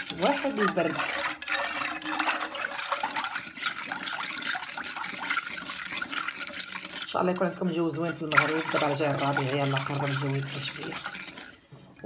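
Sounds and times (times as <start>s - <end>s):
whisk sloshing in metal saucepan: 0.0s - 11.7s.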